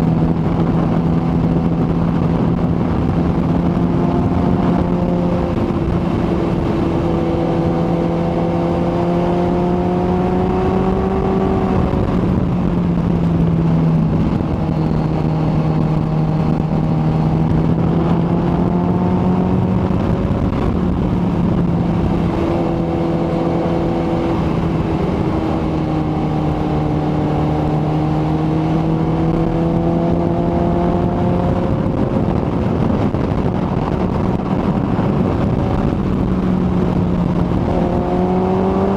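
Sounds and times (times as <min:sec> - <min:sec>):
motorcycle engine cruising: 0:00.0 - 0:38.9
steady rushing noise: 0:00.0 - 0:38.9.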